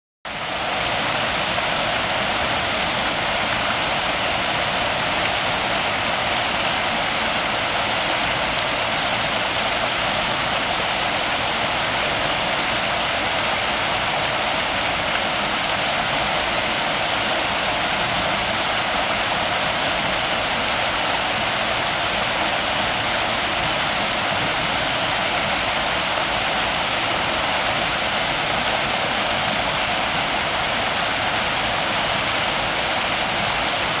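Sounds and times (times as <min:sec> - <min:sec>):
small waterfall splashing: 0:00.3 - 0:34.0.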